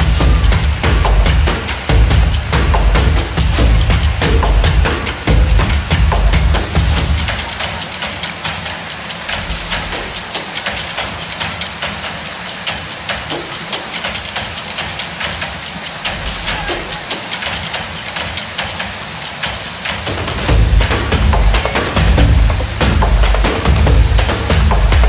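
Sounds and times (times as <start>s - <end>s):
water rushing over a weir: 0.0s - 25.0s.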